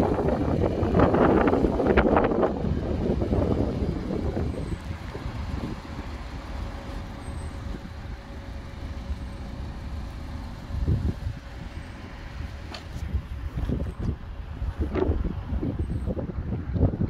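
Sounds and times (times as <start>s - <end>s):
wind buffeting microphone: 0.0s - 9.9s, 10.5s - 17.0s.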